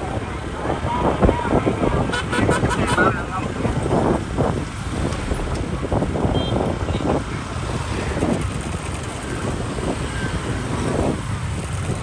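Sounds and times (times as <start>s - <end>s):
road noise: 0.0s - 12.0s
small motorbike engines rumbling: 0.0s - 12.0s.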